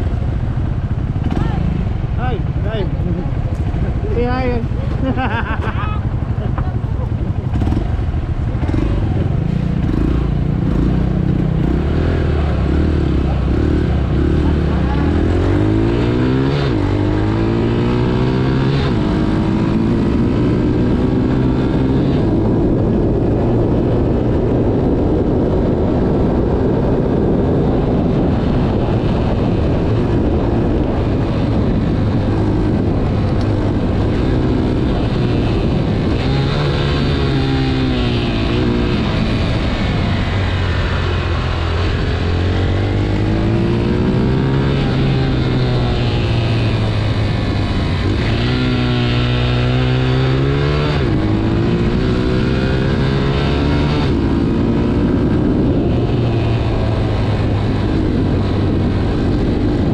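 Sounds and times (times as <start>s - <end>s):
motorcycle engine accelerating: 0.0s - 59.9s
wind rushing over microphone: 0.0s - 59.9s.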